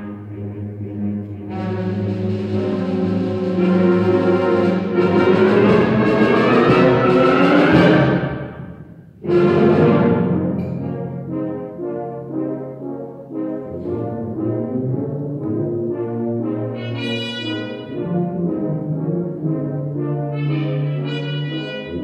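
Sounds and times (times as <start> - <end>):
wind band playing: 0.0 - 22.0.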